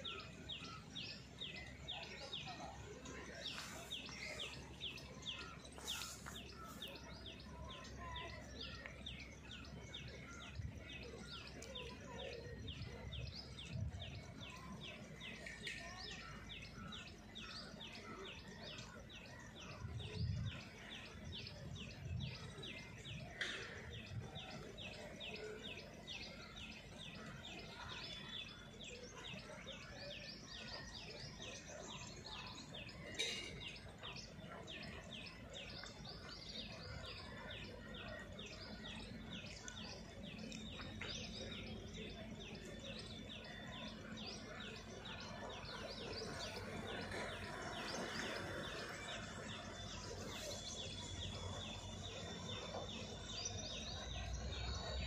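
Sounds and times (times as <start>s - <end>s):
faint outdoor background noise: 0.0s - 55.0s.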